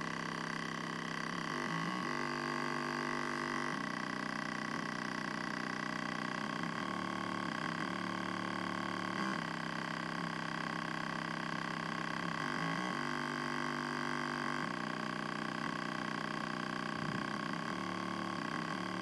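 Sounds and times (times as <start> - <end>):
overdriven subwoofer buzzy tone: 0.0 - 19.0.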